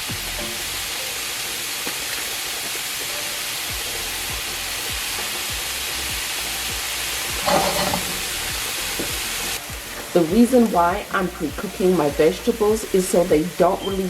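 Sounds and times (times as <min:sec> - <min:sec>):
background music with beat: 0:00.0 - 0:14.0
vegetables sizzling in a pan: 0:00.0 - 0:14.0.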